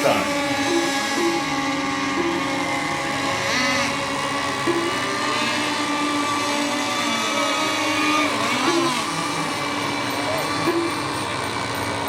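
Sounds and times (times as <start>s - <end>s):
model boat engines buzzing: 0.0s - 12.0s.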